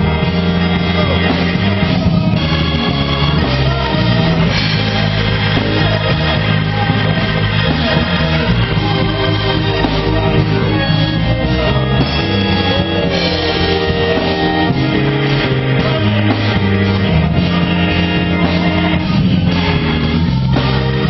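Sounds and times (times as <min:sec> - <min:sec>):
keyboard playing held chords: 0:00.0 - 0:21.0
person singing: 0:00.0 - 0:21.0
steady bass line: 0:00.0 - 0:21.0.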